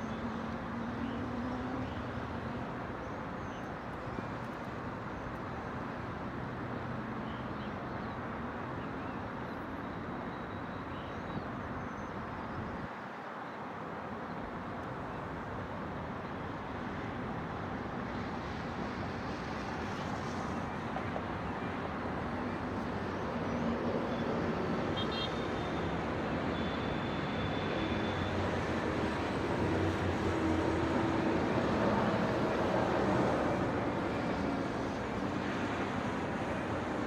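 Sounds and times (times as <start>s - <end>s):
city traffic: 0.0s - 37.0s.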